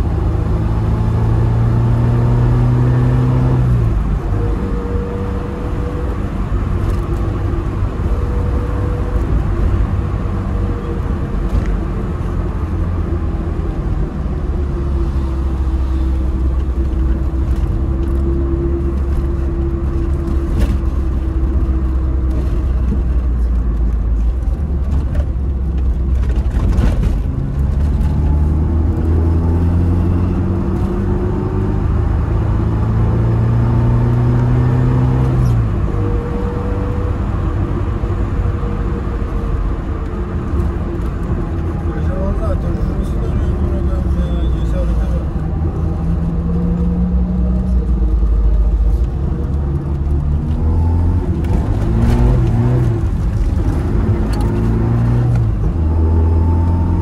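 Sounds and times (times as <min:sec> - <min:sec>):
car engine droning and revving: 0:00.0 - 0:57.0.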